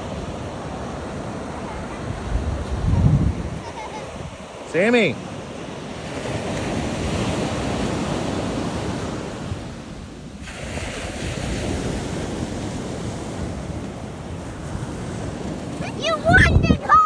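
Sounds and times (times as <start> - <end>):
wind buffeting microphone: 0.0 - 4.6, 5.4 - 17.0
ocean surf washing onto beach: 0.0 - 17.0.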